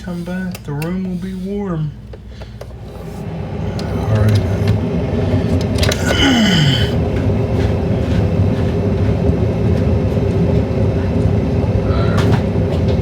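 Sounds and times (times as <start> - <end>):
machine low rumble: 0.0 - 13.0.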